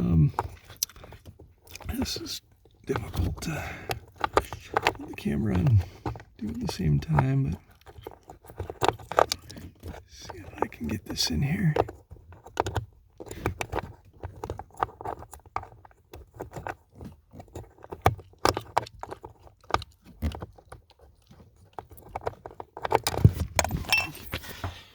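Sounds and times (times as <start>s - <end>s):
small plastic parts clicking: 0.0s - 11.2s, 11.8s - 24.4s.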